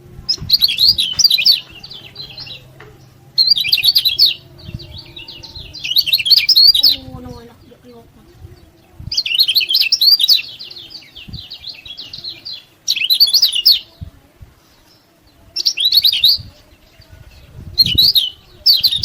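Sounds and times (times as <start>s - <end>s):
songbird twittering: 0.3s - 19.0s.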